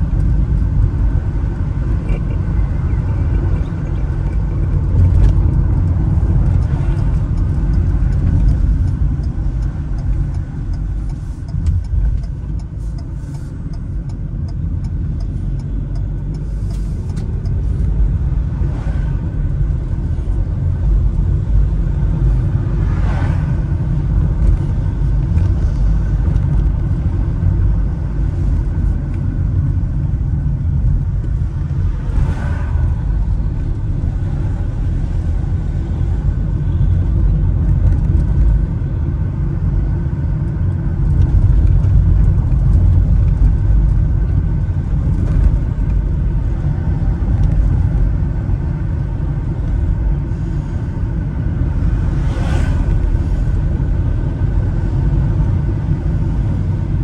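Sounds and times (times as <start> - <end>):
road and engine noise in vehicle: 0.0 - 57.0.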